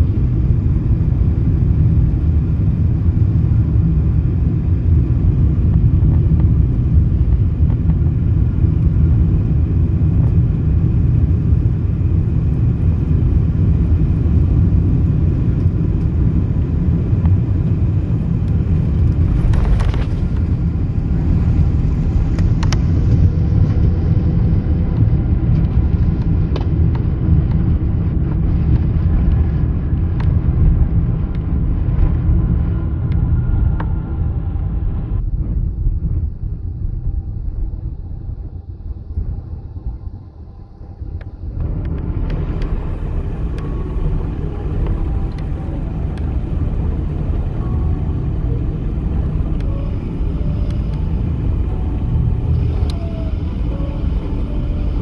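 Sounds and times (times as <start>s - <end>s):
airliner engines rumbling: 0.0s - 55.0s.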